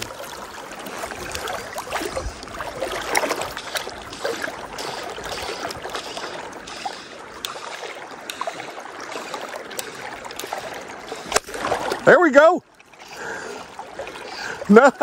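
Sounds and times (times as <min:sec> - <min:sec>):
river current rippling and lapping: 0:00.0 - 0:15.0.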